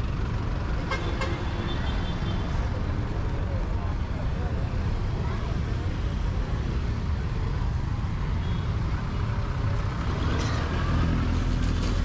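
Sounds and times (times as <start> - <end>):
road traffic engines rumbling: 0.0 - 12.0.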